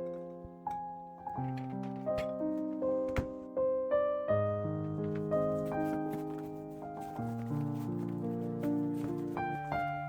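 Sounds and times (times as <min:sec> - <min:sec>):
soft piano melody: 0:00.0 - 0:10.0.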